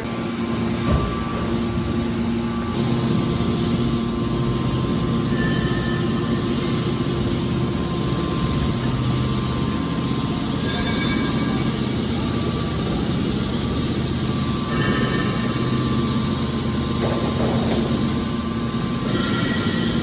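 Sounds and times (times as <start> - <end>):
industrial machinery humming: 0.0 - 20.0.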